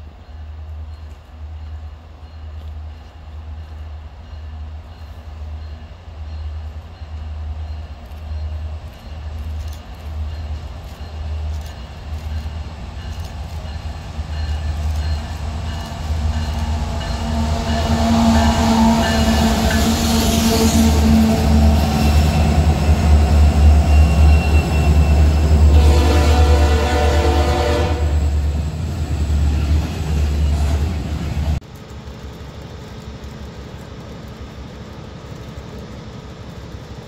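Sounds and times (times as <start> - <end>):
diesel locomotives passing: 0.0 - 37.0.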